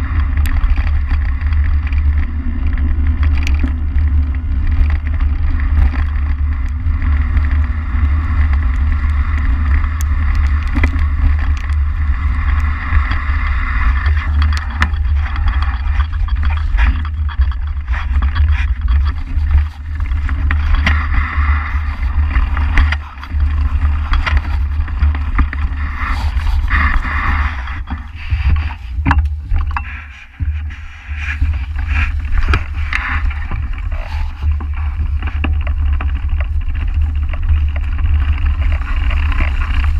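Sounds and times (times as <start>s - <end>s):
bike clicking and rattling: 0.0s - 39.9s
tyres rolling over dirt and leaves: 0.0s - 39.9s
wind rumbling on microphone: 0.0s - 39.9s.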